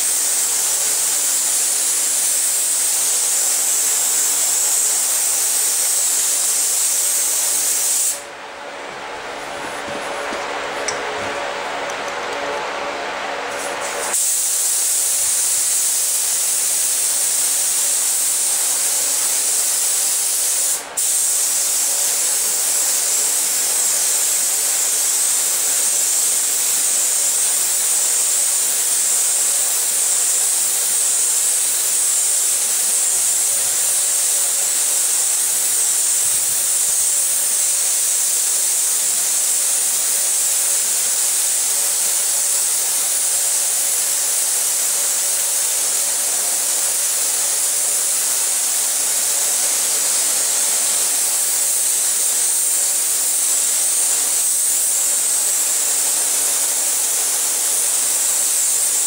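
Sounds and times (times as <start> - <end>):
paint spray gun hissing: 0.0 - 8.3, 13.5 - 59.0.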